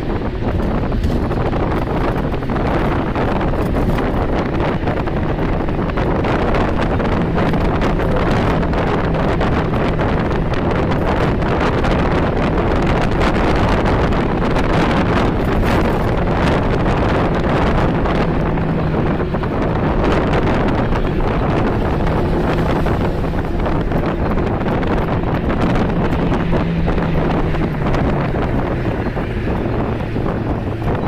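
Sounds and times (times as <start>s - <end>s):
low engine hum: 0.0s - 31.0s
road and wind noise in car: 0.0s - 31.0s.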